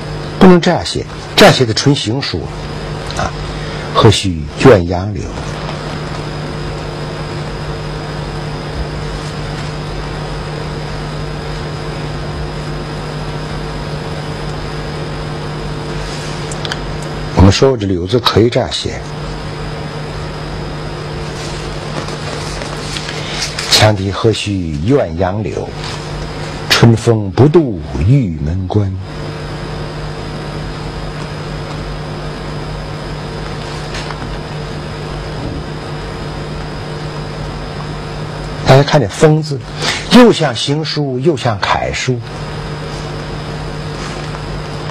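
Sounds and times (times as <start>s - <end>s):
background hum and hiss: 0.0s - 44.9s
faint high whine: 0.0s - 44.9s.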